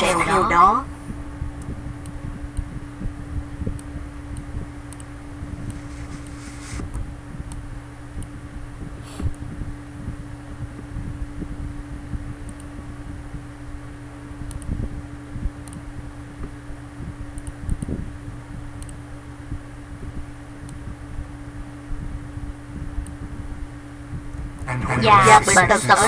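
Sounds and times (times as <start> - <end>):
computer fan whirring: 0.0 - 26.0
low hum: 0.0 - 26.0.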